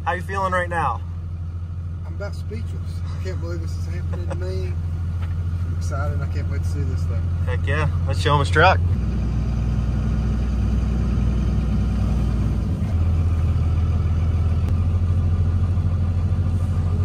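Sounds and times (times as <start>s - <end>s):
diesel engine drone inside cab: 0.0s - 17.0s.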